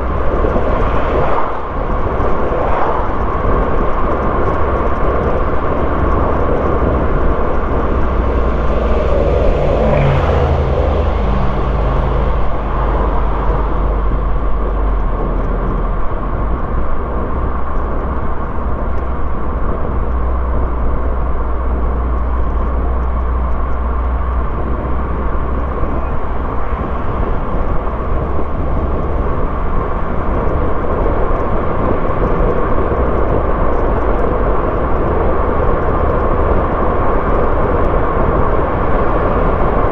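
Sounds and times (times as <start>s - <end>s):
car engine and tyre rumble: 0.0s - 39.9s
engine tone: 4.5s - 38.4s.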